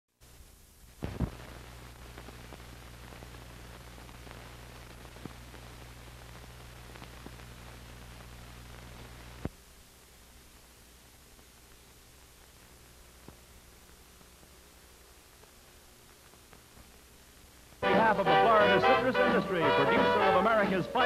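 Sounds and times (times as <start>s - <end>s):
crackles and pops: 0.2s - 17.8s
film soundtrack hum and hiss: 0.2s - 21.0s.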